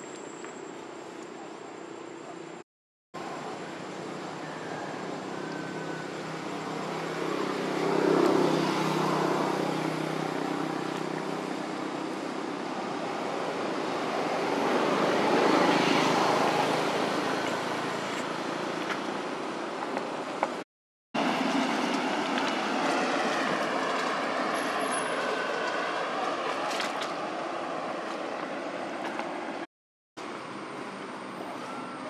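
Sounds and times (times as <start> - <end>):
distant road traffic: 3.2 - 20.6, 21.2 - 32.0.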